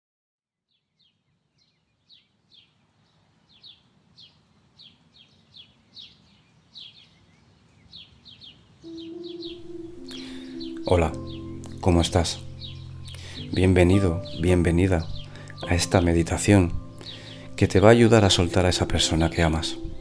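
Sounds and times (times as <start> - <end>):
birds chirping: 0.7 - 20.0.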